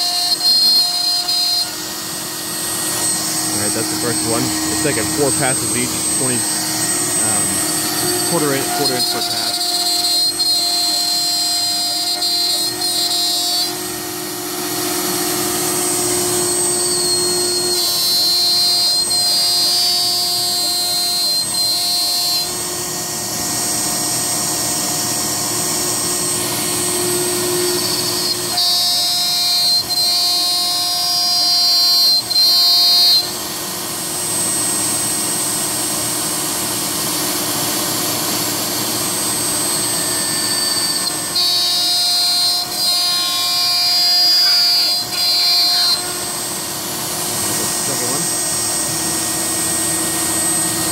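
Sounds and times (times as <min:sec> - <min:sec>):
router milling plastic with high whine: 0:00.0 - 0:50.9.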